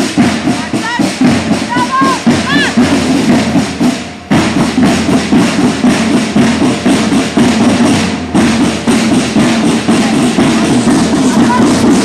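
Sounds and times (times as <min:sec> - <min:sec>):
snare drums marching rhythm: 0:00.0 - 0:12.0.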